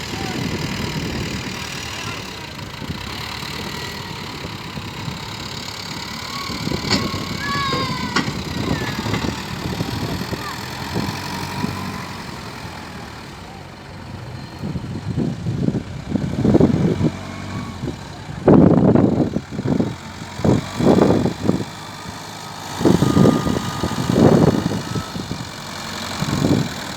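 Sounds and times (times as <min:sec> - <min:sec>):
engine idling and revving: 0:00.0 - 0:26.9.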